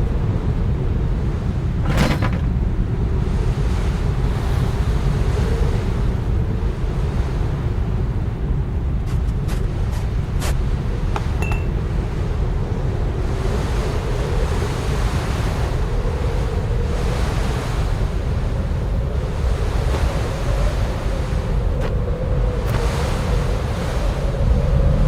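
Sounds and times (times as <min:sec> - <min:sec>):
strong wind gusting: 0:00.0 - 0:25.0.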